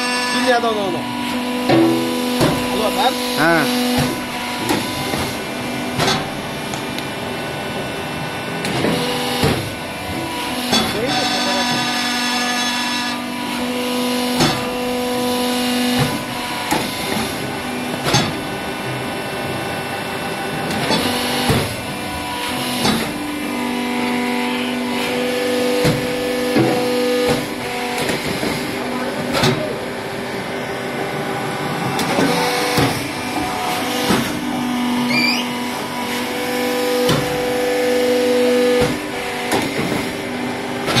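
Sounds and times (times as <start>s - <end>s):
machine hum: 0.0s - 41.0s.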